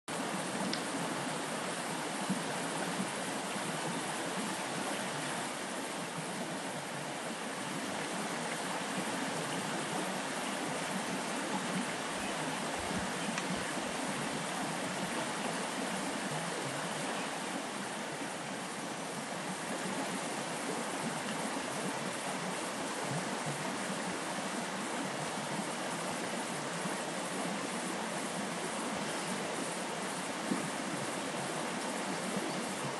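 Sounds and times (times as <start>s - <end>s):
stream running over rocks: 0.1s - 32.9s.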